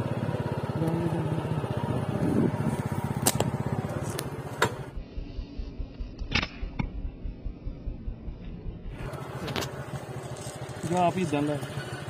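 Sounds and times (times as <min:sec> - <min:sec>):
motorcycle engine running: 0:00.0 - 0:12.0
outdoor background: 0:00.0 - 0:12.0.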